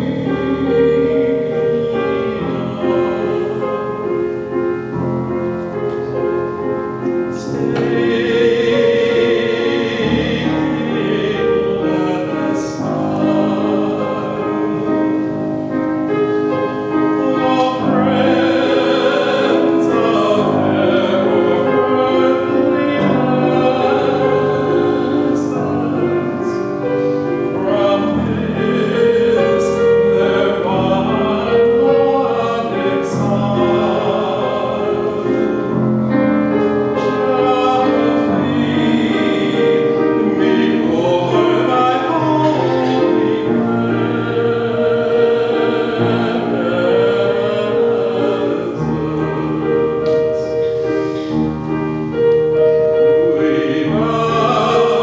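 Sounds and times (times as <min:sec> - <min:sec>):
church choir singing: 0:00.0 - 0:55.0
piano accompaniment: 0:00.0 - 0:55.0.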